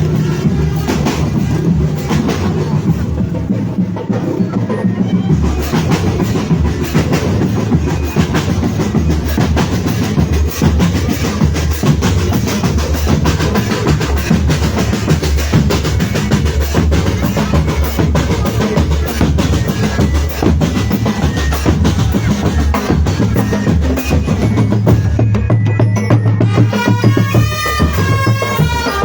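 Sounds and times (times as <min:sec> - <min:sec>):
bass drums beating: 0:00.0 - 0:29.0.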